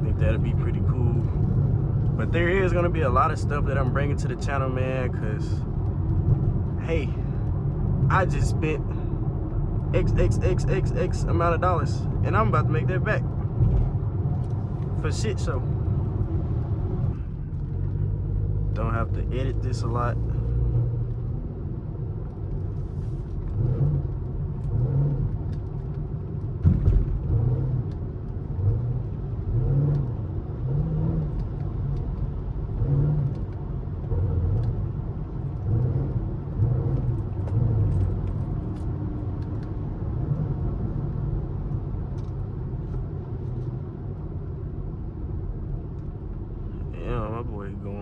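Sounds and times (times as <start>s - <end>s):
car engine rumbling through exhaust: 0.0s - 48.0s.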